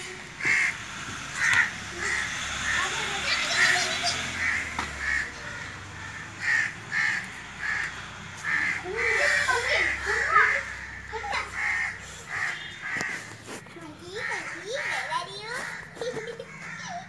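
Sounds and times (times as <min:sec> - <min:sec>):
crows cawing: 0:00.4 - 0:17.0.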